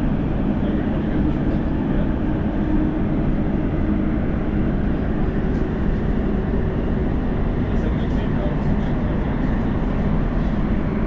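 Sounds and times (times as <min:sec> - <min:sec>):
train rumbling in a tunnel: 0:00.0 - 0:11.0.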